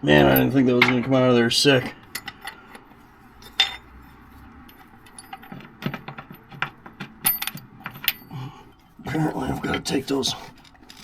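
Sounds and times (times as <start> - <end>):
metal tools clinking: 2.0 - 11.0.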